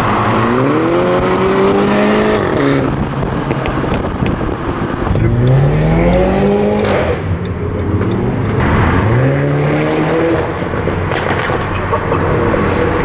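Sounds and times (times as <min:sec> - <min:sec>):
car engine accelerating hard: 0:00.0 - 0:13.0
road noise: 0:00.0 - 0:13.0.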